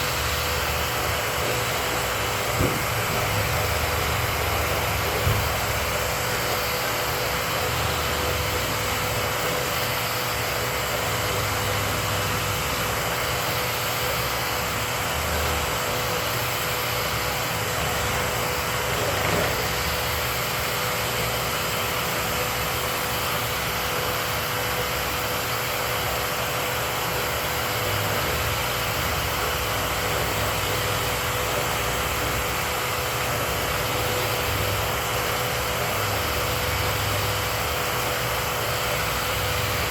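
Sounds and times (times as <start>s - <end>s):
dust collection vacuum running: 0.0s - 39.9s.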